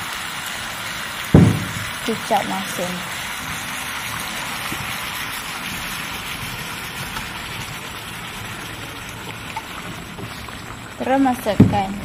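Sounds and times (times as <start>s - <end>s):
meat sizzling in a wok: 0.0s - 11.2s.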